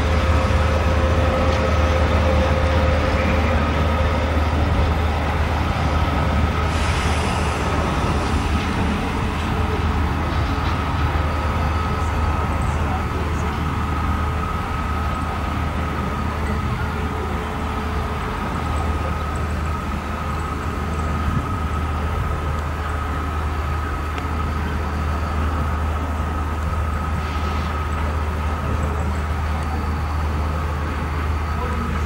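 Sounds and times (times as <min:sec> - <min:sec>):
distant diesel locomotive rumbling: 0:00.0 - 0:32.0.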